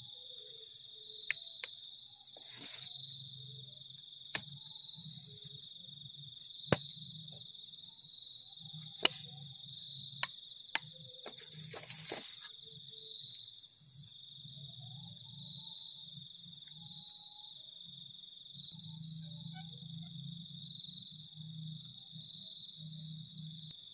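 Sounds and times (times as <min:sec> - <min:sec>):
night insects chirring: 0:00.0 - 0:23.9.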